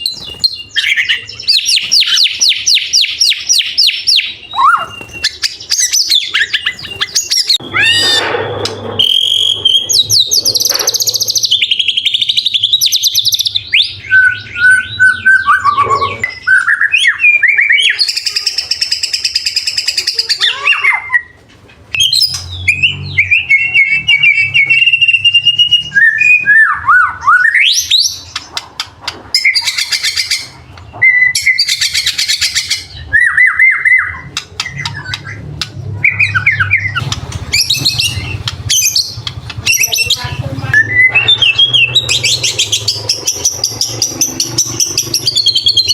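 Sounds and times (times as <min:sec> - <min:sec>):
bird singing whistled song: 0:00.0 - 0:28.4, 0:29.3 - 0:35.4, 0:36.0 - 0:45.9.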